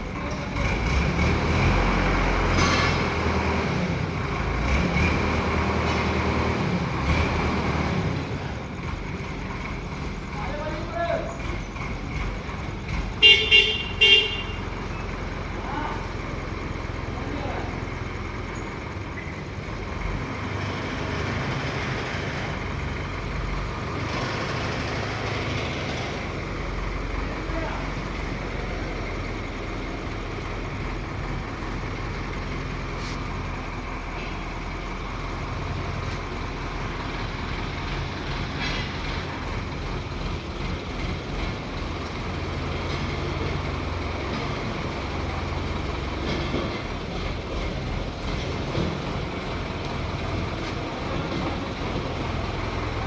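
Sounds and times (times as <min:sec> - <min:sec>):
crane engine rumbling: 0:00.0 - 0:53.0.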